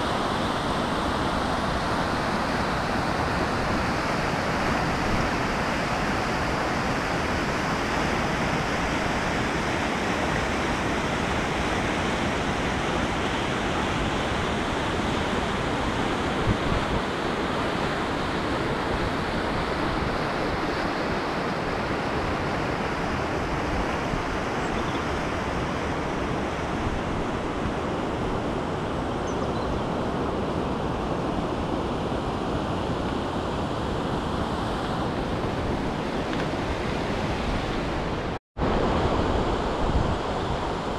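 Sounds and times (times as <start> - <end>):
river rushing over rapids: 0.0 - 40.9.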